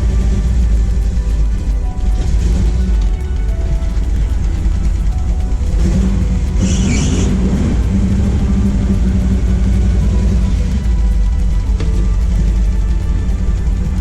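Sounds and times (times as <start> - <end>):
music playing: 0.0 - 14.0.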